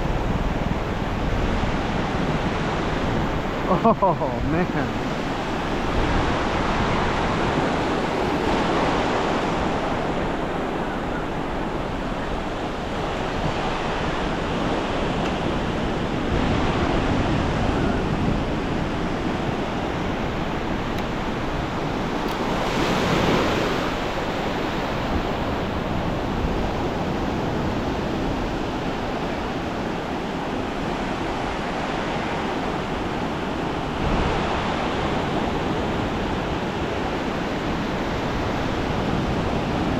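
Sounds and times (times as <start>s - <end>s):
wind buffeting microphone: 0.0s - 3.7s, 4.7s - 39.9s
ocean surf breaking on beach: 0.0s - 39.9s.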